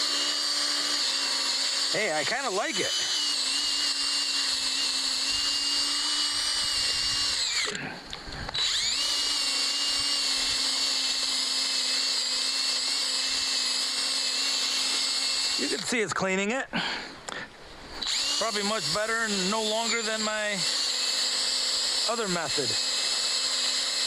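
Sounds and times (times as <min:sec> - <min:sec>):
handheld drill motor running: 0:00.0 - 0:16.1, 0:18.0 - 0:24.0.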